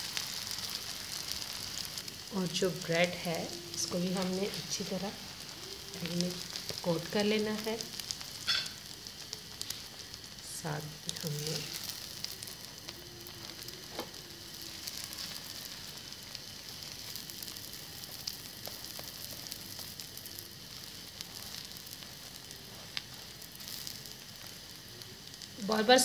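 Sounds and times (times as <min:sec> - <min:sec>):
egg and bread sizzling in a pan: 0:00.0 - 0:26.0.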